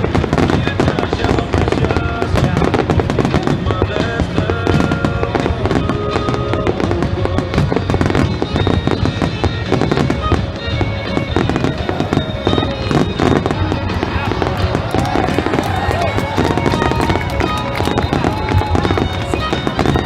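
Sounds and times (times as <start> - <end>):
fireworks crackling bangs: 0.0 - 20.0
music playing: 0.0 - 20.0.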